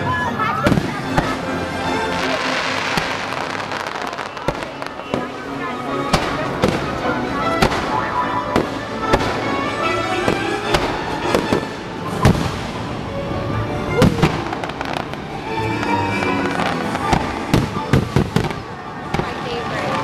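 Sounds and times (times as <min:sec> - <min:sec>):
show music: 0:00.0 - 0:18.5
fireworks bangs and pops: 0:00.6 - 0:09.5, 0:10.2 - 0:13.0, 0:13.9 - 0:15.2, 0:15.8 - 0:20.0.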